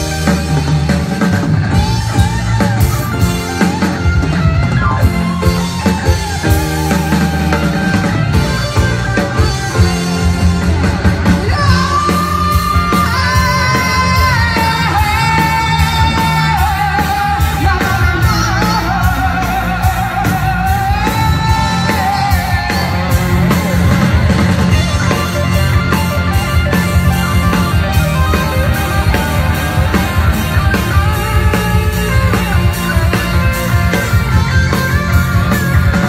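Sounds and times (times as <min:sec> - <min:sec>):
bass guitar: 0:00.0 - 0:36.0
drum kit: 0:00.0 - 0:36.0
electric guitars: 0:00.0 - 0:36.0.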